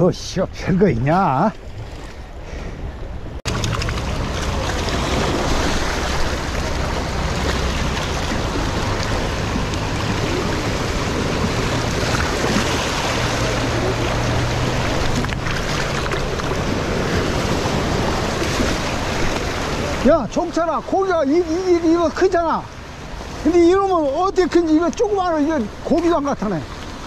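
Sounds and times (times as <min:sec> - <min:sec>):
sea waves washing over rocks: 0:03.5 - 0:27.0.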